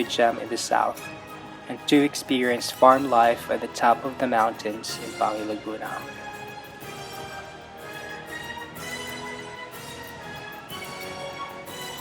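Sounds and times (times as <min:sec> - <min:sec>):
gentle orchestral music with strings: 0:00.0 - 0:12.0.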